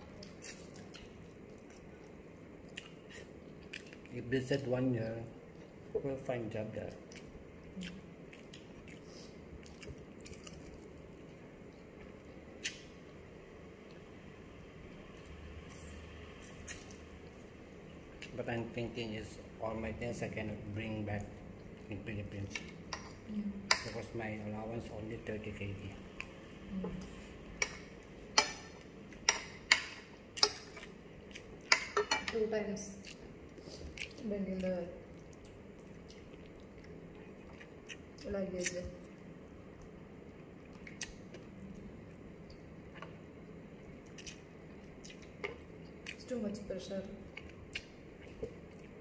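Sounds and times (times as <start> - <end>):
room hum: 0.0 - 49.0.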